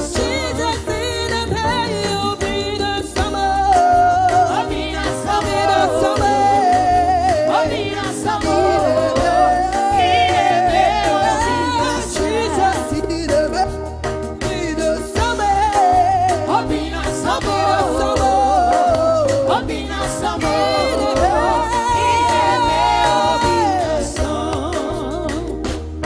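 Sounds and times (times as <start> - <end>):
person singing gospel: 0.0 - 25.6
band with pulsing bass: 0.0 - 26.0.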